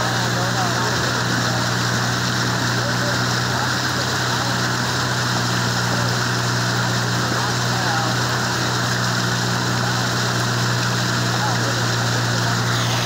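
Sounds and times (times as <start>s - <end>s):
motor droning: 0.0s - 13.0s.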